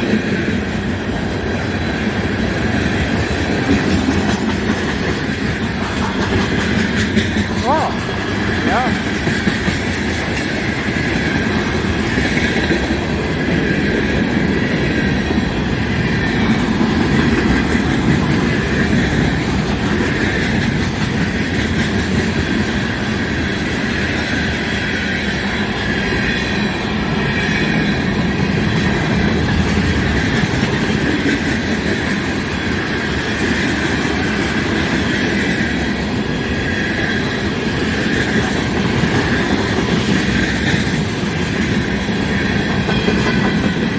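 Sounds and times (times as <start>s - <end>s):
clickety-clack over rail joints: 0.0s - 43.9s
freight train wheels rumbling on rails: 0.0s - 43.9s.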